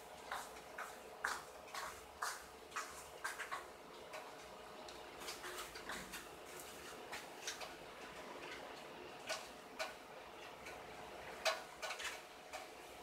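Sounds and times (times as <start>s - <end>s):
incubator fan hum: 0.0s - 13.0s.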